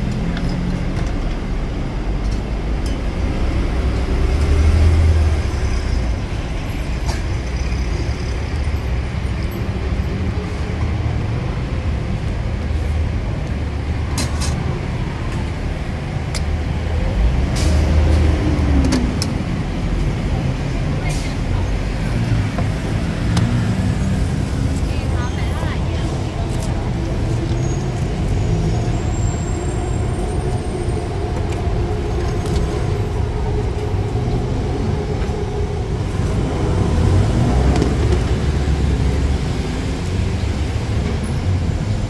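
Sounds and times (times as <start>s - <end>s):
traffic engine rumble: 0.0s - 42.0s.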